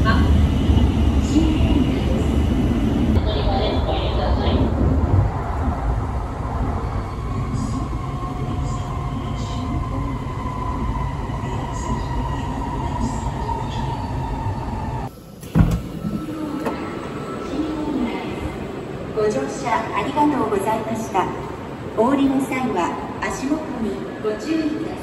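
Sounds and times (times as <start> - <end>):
train interior rumble and whine: 0.0 - 25.0.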